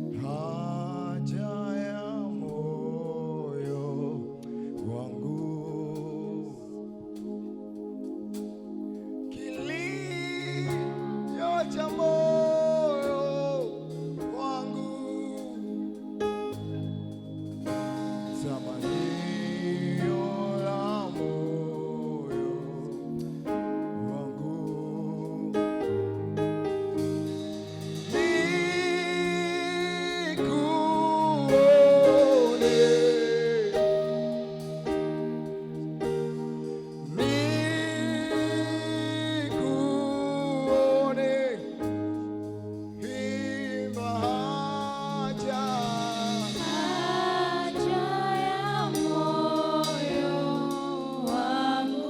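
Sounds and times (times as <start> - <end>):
choir singing gospel: 0.0 - 52.0
instrumental backing: 0.0 - 52.0
keyboard: 0.0 - 52.0.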